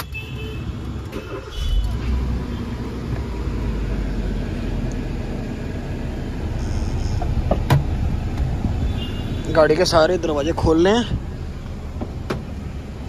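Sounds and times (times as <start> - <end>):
car engine idling: 0.7 - 13.0.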